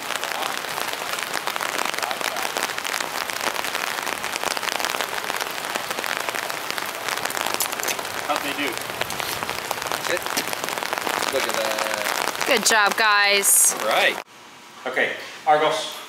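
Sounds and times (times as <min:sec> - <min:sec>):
steady rain falling: 0:00.0 - 0:14.3.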